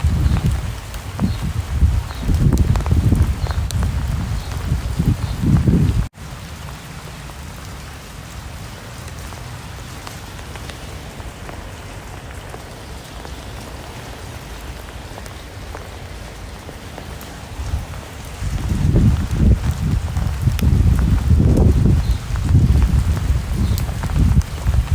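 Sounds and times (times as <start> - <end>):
individual raindrops ticking: 0.0 - 24.9
steady rain: 0.0 - 24.9.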